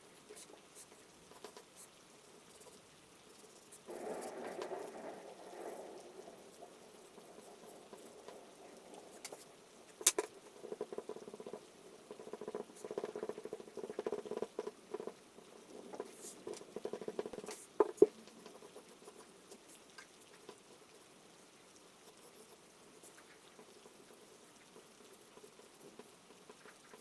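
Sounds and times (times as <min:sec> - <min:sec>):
faint steady hiss: 0:00.0 - 0:27.0
soft pattering and scratching: 0:00.0 - 0:27.0.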